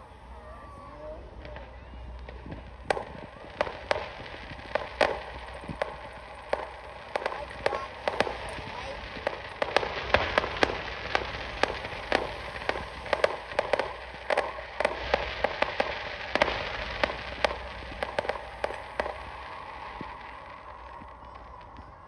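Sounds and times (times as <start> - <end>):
fireworks bangs and pops: 0.0 - 22.0.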